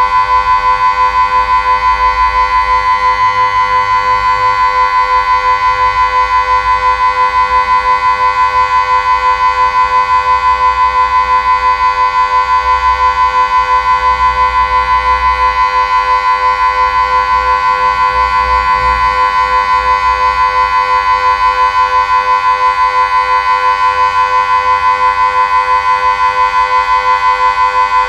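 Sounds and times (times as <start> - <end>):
pulsing electronic siren tone: 0.0 - 28.0.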